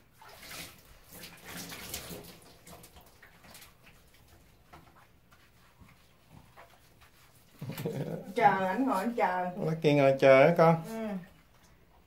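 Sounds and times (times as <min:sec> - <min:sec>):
water running and splashing in tub: 0:00.0 - 0:12.0.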